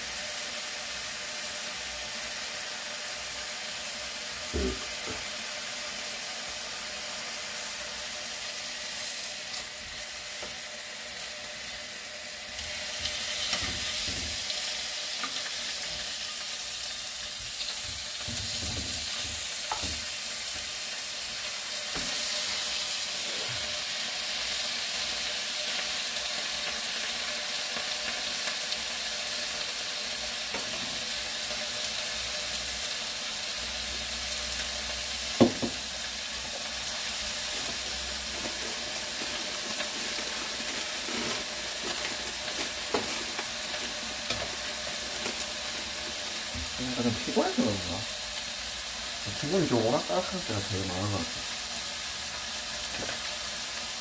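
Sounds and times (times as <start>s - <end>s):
meat sizzling on a grill: 0.0s - 54.0s.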